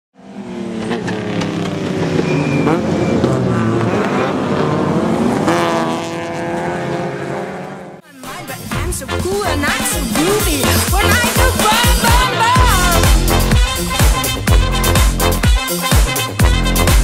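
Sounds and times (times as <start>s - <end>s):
race car engine revving: 0.2s - 8.0s, 9.4s - 17.0s.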